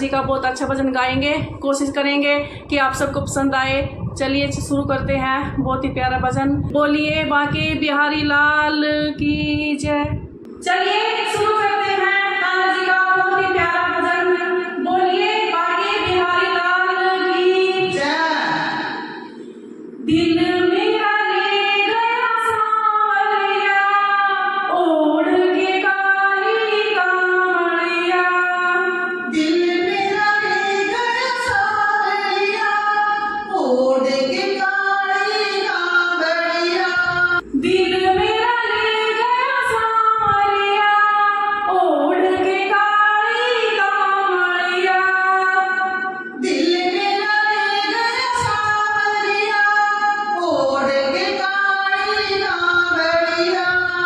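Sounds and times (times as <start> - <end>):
women singing devotional song: 0.0 - 54.0.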